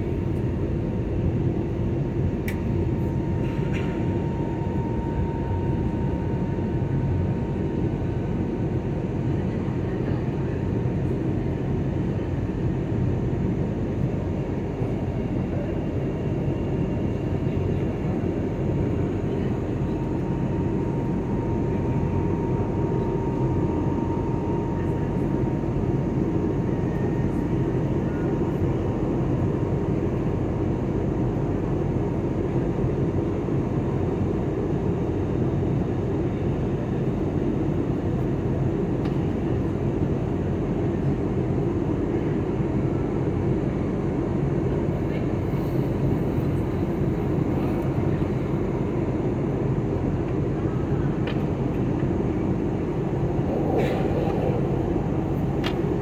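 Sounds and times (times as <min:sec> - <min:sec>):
airliner cabin engine and airflow: 0:00.0 - 0:56.0.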